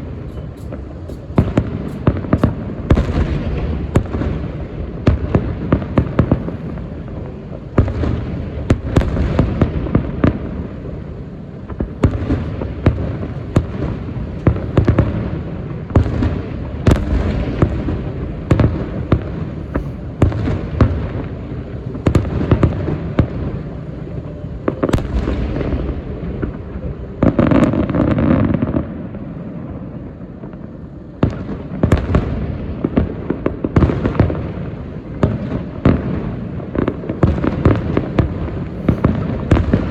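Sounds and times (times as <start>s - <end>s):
fireworks bursting: 0.0s - 7.1s, 11.7s - 39.9s
continuous fireworks rumble: 0.0s - 39.9s.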